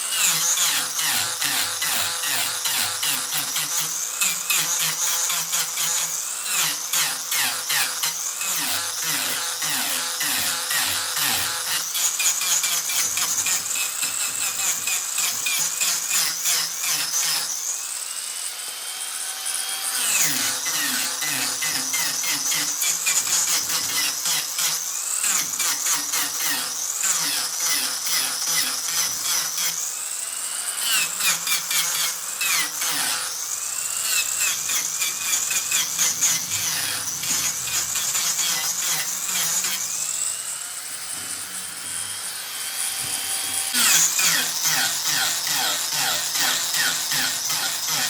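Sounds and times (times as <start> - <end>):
angle grinder on wood: 0.0 - 48.0.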